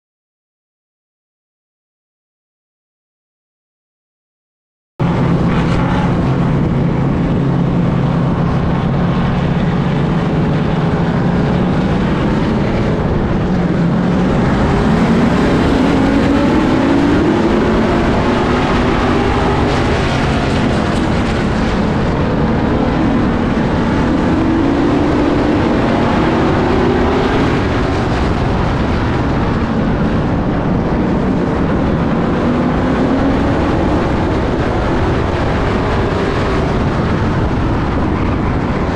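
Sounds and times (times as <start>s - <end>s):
race car engine: 5.0s - 38.9s
wind and road noise: 5.0s - 38.9s.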